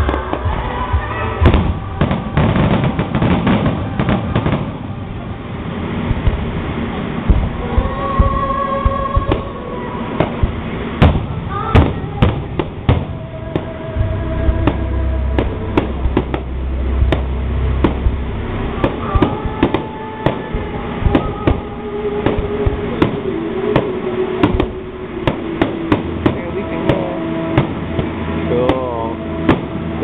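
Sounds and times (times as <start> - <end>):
fireworks bursting: 0.0 - 30.0
low rumble: 0.0 - 30.0.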